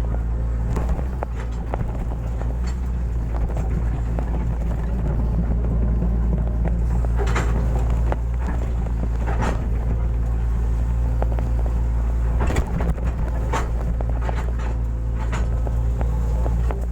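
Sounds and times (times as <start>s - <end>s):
excavator diesel engine running: 0.0s - 16.9s
machine knocks and clanks: 0.0s - 16.9s.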